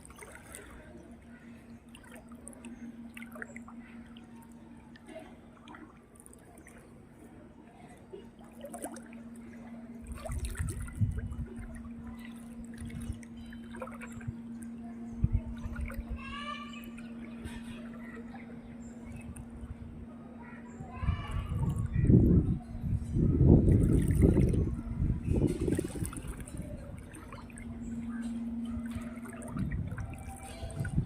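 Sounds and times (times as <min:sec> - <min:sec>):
water trickling and dripping: 0:00.0 - 0:19.8, 0:20.9 - 0:31.0
steady hum: 0:00.0 - 0:31.0.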